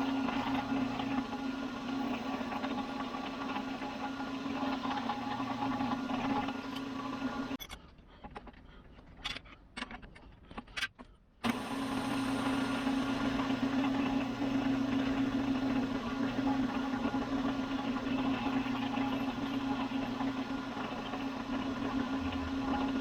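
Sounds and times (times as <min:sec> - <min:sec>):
drill press motor humming: 0:00.0 - 0:07.6, 0:11.4 - 0:23.0.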